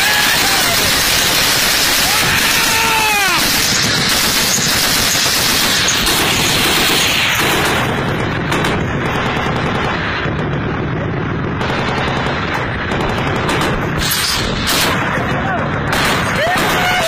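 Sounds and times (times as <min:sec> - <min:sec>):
heavy machine gun firing: 0:00.0 - 0:17.0.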